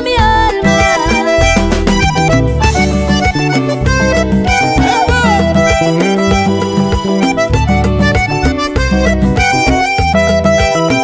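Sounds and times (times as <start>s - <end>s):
acoustic guitar: 0.0s - 11.0s
instrumental melody: 0.0s - 11.0s
steady bass line: 0.0s - 11.0s.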